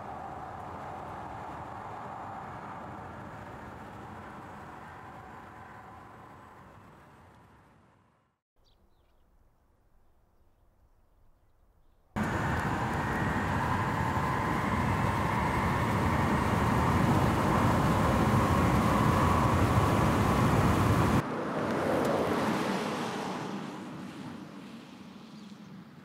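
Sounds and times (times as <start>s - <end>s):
car road noise with whine: 0.0s - 8.3s, 12.2s - 26.0s.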